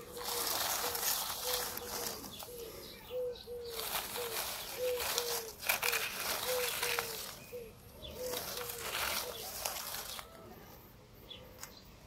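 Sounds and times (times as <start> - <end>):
dove cooing: 0.0 - 10.6
steady outdoor hiss: 0.0 - 12.0.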